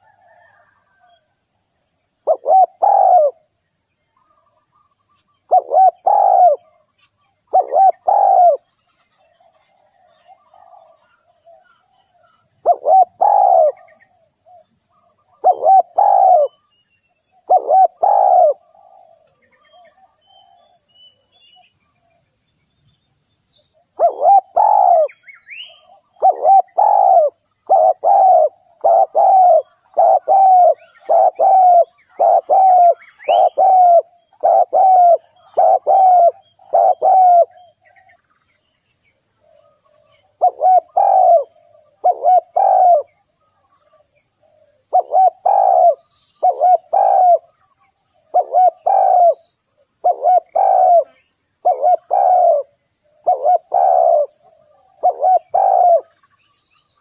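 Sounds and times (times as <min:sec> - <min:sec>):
dove cooing: 0:00.0 - 0:01.3, 0:02.1 - 0:03.5, 0:05.4 - 0:08.7, 0:09.4 - 0:16.7, 0:17.3 - 0:20.9, 0:23.8 - 0:38.2, 0:39.4 - 0:47.6, 0:48.2 - 0:56.2.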